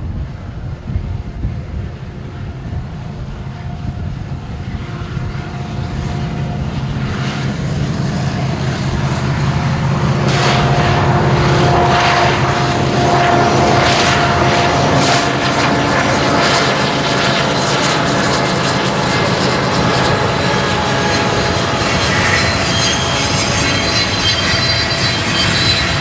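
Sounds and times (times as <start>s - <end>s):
diesel locomotive engine drone: 0.0s - 26.0s
train wheels rushing on rails: 0.0s - 26.0s.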